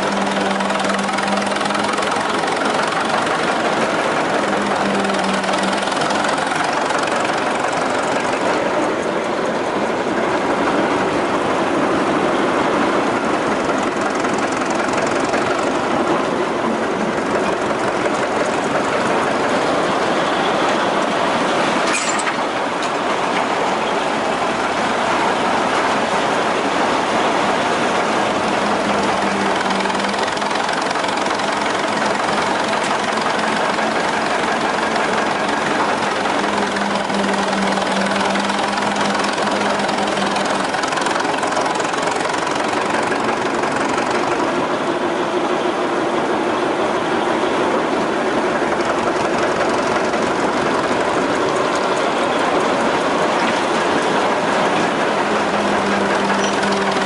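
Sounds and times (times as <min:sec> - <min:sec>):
engine running with rod knock: 0:00.0 - 0:46.4, 0:47.0 - 0:57.0.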